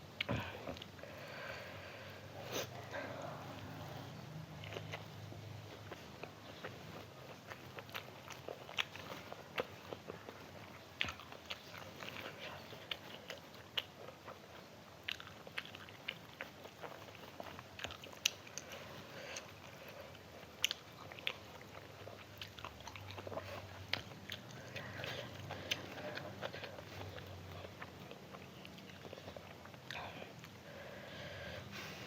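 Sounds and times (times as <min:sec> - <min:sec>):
person chewing and biting food: 0:02.4 - 0:30.6.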